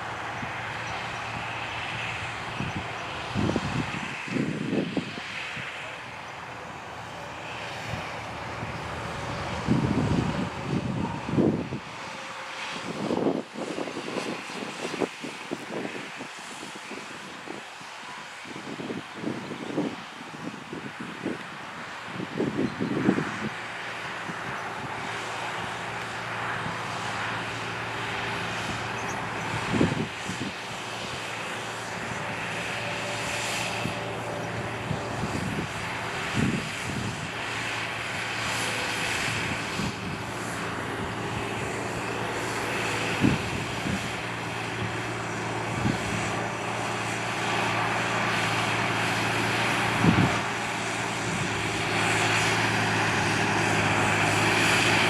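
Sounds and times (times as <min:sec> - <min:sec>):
tractor diesel engine running: 0:00.0 - 0:13.6, 0:23.5 - 0:55.0.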